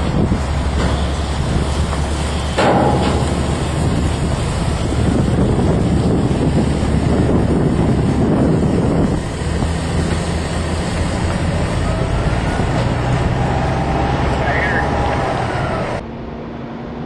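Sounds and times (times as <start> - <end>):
wind buffeting microphone: 0.0 - 16.0
heavy trailer rolling past: 0.0 - 17.0.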